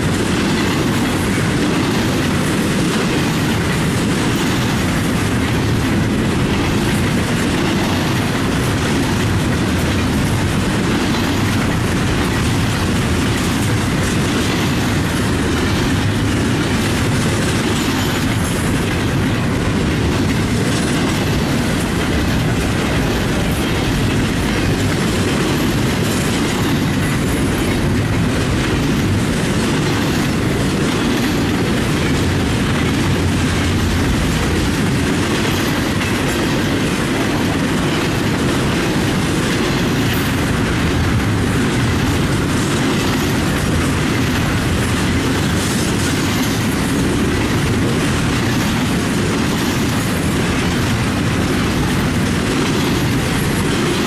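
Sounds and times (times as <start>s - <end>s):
clatter over rail joints: 0.0s - 54.0s
freight train wheels on rails: 0.0s - 54.0s.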